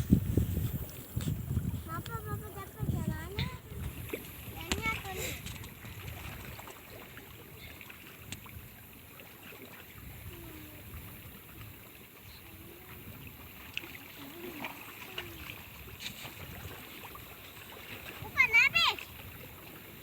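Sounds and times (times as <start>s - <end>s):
water at shore: 0.0s - 20.0s
wind: 0.0s - 20.0s.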